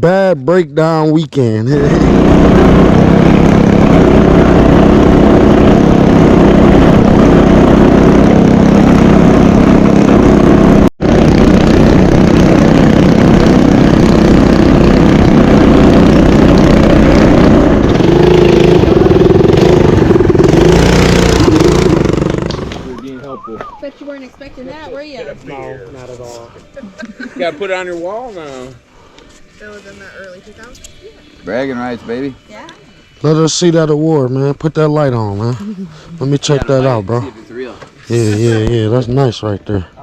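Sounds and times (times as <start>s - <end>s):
small engine running: 1.6s - 23.6s, 24.9s - 39.9s.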